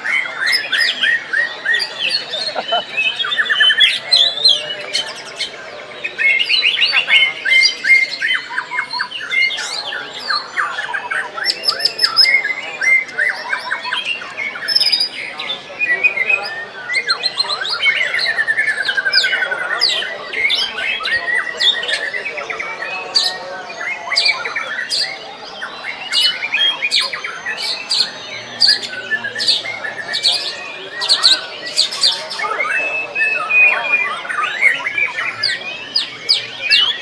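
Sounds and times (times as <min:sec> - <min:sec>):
songbirds singing: 0:00.0 - 0:37.0.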